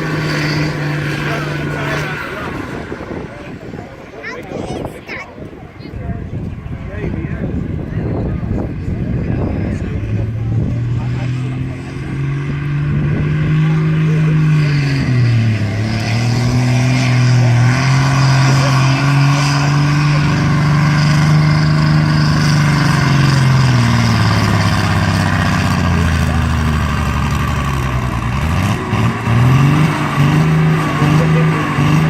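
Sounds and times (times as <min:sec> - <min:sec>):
tractor engine under load: 0:00.0 - 0:04.2, 0:09.8 - 0:32.0.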